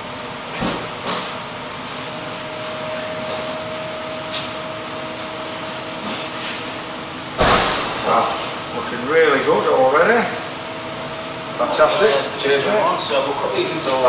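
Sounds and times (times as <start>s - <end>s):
kitchen ventilation fan noise: 0.0s - 14.0s.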